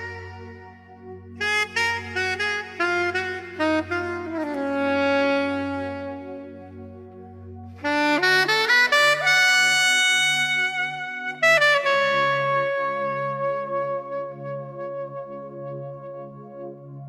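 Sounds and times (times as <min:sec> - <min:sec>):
saxophone-like lead melody: 0:00.0 - 0:17.0.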